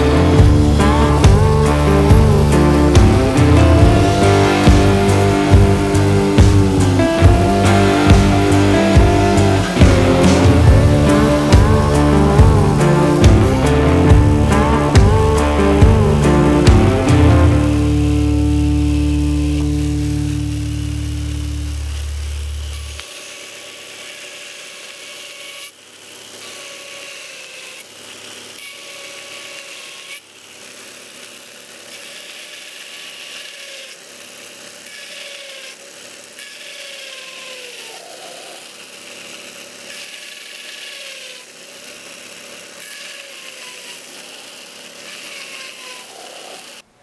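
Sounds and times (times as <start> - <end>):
steel grinding hiss: 0.0 - 46.9
belt grinder motor whine: 0.0 - 47.0.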